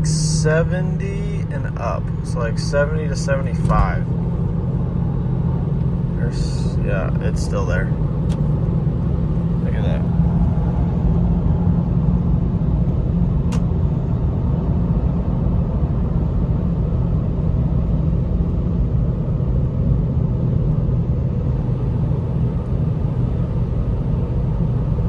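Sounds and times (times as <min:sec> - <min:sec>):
car cabin road and engine rumble: 0:00.0 - 0:25.0
constant low hum: 0:00.0 - 0:25.0.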